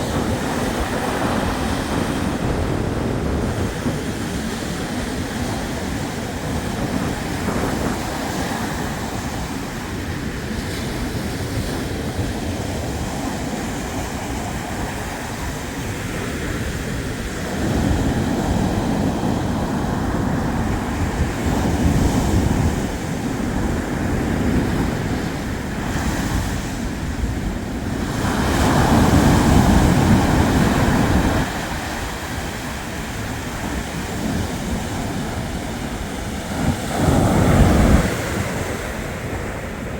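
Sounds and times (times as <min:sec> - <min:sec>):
waves washing onto shore: 0:00.0 - 0:39.9.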